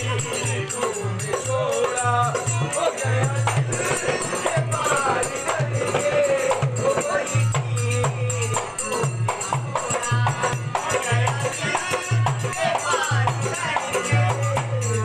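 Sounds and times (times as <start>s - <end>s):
hand drum beating rhythm: 0.0s - 15.0s
jingling percussion: 0.0s - 15.0s.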